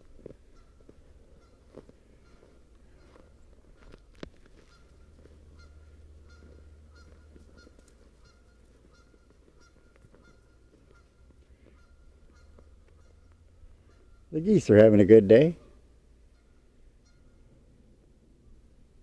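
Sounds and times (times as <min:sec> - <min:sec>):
distant geese honking: 0:00.0 - 0:18.9.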